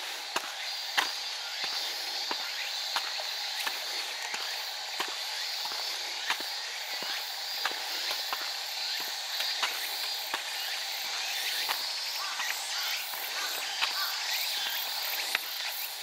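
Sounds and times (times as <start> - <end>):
footsteps on paved path: 0.0 - 16.0
high-pitched insect chorus: 0.0 - 16.0.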